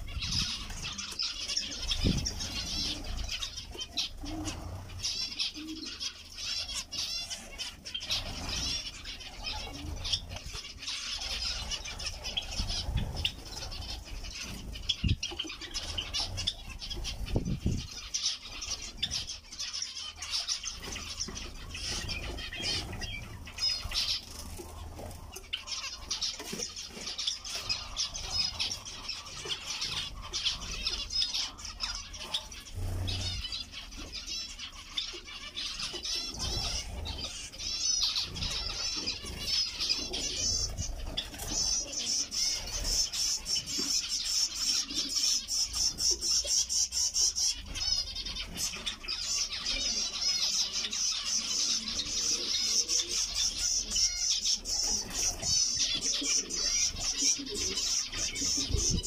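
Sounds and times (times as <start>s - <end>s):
finches calling: 0.0s - 59.0s.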